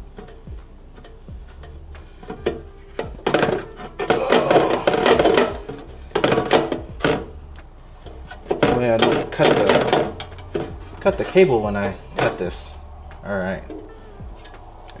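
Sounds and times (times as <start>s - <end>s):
pliers scraping and crunching: 0.2s - 12.5s.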